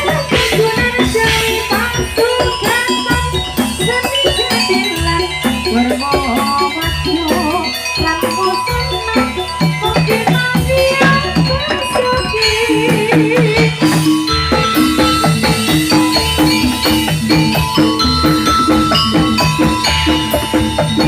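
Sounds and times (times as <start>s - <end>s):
drum strokes: 0.0s - 21.0s
metallophone melody: 0.0s - 21.0s.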